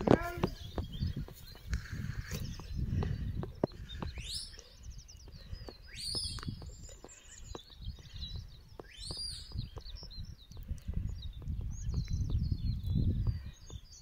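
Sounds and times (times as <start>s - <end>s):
birdsong: 0.0s - 14.0s
wind rumbling on microphone: 0.0s - 14.0s.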